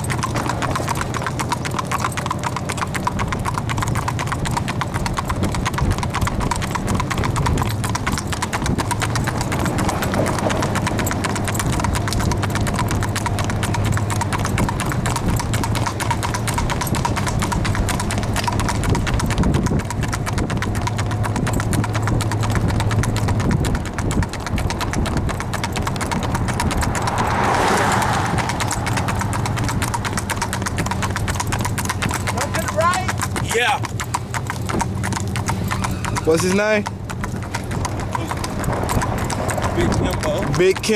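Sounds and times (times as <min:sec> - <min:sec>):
horse hooves clip-clopping: 0:00.0 - 0:40.9.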